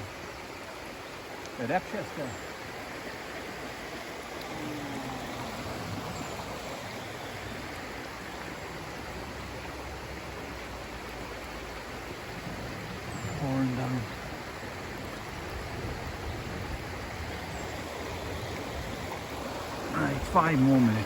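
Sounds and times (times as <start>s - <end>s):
river running: 0.0s - 21.0s
heavy rain falling: 4.0s - 21.0s.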